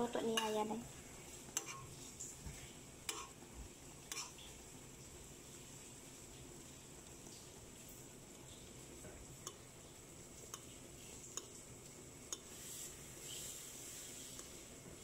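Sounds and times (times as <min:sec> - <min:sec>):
sauce bubbling and sizzling: 0:00.0 - 0:15.0.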